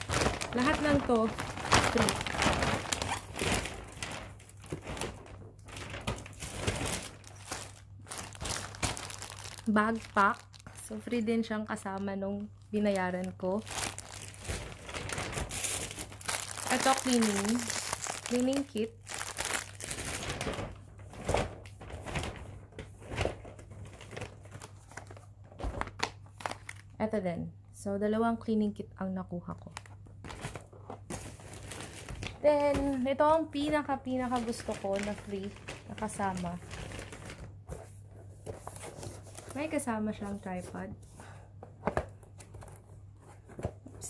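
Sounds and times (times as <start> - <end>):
plastic bags rustling and crinkling: 0.0 - 26.9, 29.7 - 41.4.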